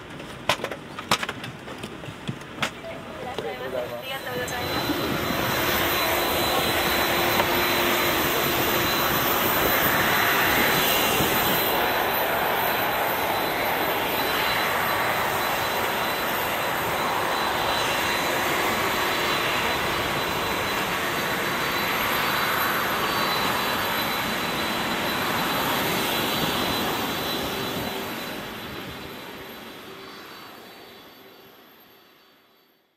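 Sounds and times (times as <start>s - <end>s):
aircraft engine noise: 0.0s - 32.5s
thin high whine: 2.8s - 32.9s.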